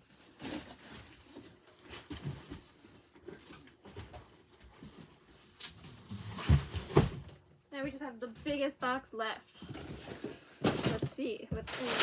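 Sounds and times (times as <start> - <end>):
boxes and packaging rustling: 0.0 - 7.6, 8.2 - 12.0.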